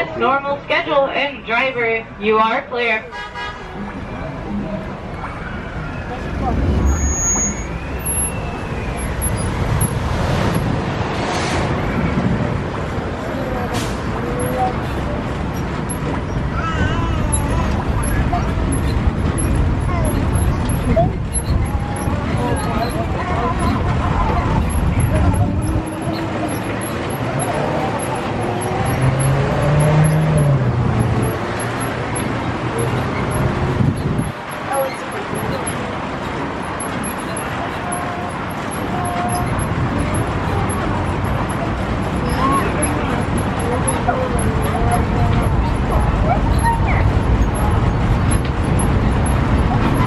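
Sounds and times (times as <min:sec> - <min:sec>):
bus passing: 0:00.0 - 0:50.0
road and running noise: 0:00.0 - 0:50.0
tram engine and tyres rumbling: 0:00.0 - 0:50.0.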